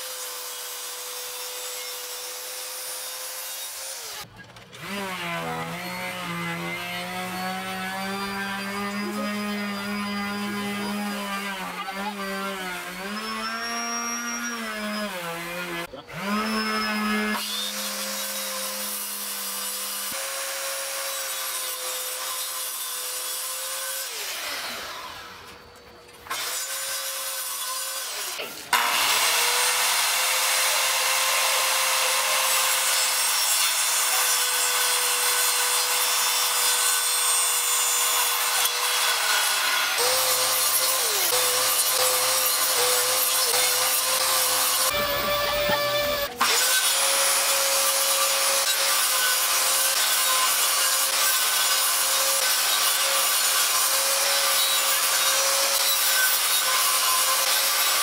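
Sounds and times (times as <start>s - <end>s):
circular saw cutting wood: 0.0s - 58.0s.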